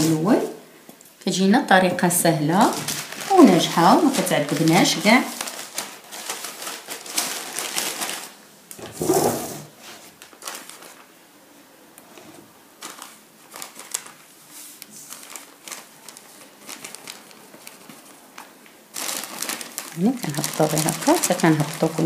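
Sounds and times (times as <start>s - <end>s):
paper rustling and crinkling: 2.6s - 11.1s, 12.1s - 22.0s.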